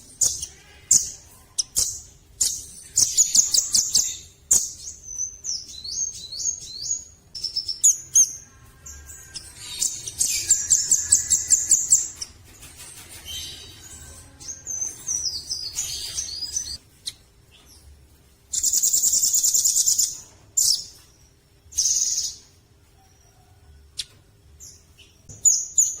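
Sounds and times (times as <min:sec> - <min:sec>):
bird singing chirps and trills: 0:00.0 - 0:17.9, 0:18.5 - 0:26.0.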